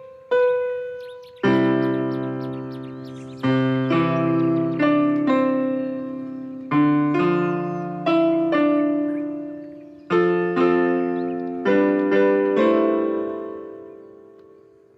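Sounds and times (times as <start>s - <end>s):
solo piano music: 0.0s - 14.9s.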